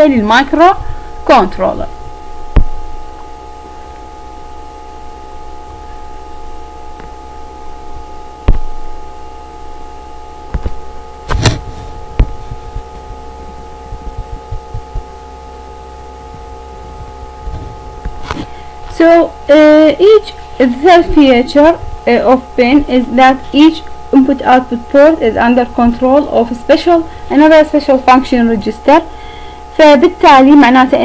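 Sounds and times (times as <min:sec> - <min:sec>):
hum of held tones: 0:00.0 - 0:31.0.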